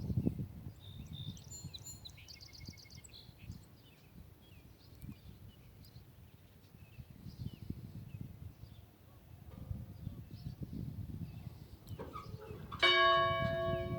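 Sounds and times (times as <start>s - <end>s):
small birds chirping: 0.1s - 12.8s.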